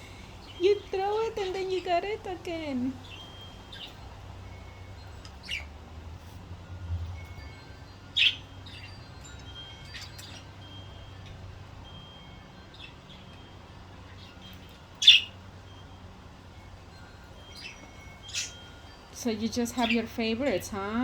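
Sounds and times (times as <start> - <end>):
budgerigars chirping: 0.0 - 6.4, 7.3 - 21.0.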